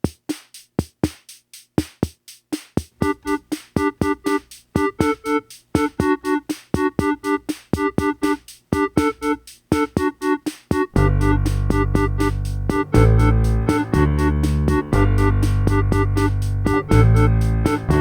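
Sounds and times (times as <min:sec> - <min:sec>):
drum-machine beat: 0:00.0 - 0:18.0
repeated keyboard chords: 0:03.0 - 0:18.0.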